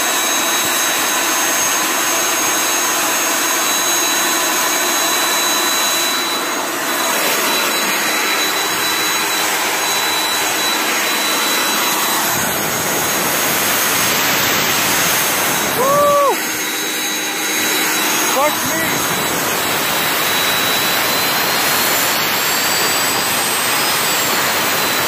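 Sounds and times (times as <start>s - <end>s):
high steady whine: 0.0s - 25.0s.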